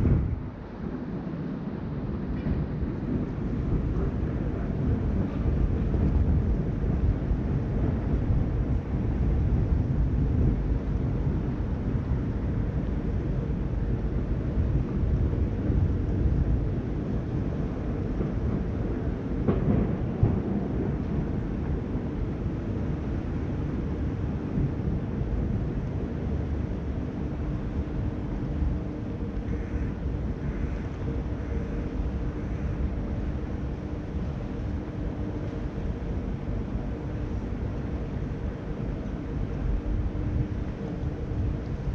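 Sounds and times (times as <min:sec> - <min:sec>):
ship machinery hum: 0:00.0 - 0:41.9
wind buffeting microphone: 0:00.0 - 0:41.9.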